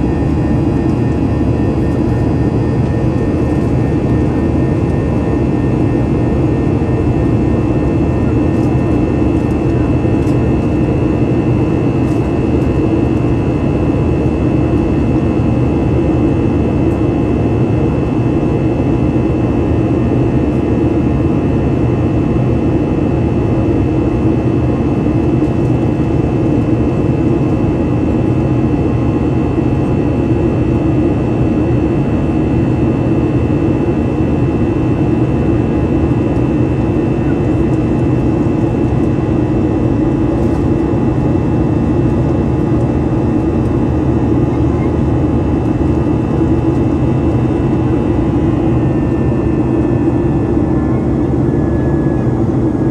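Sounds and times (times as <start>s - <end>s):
high engine whine: 0.0s - 52.9s
jet engine rumble in cabin: 0.0s - 52.9s.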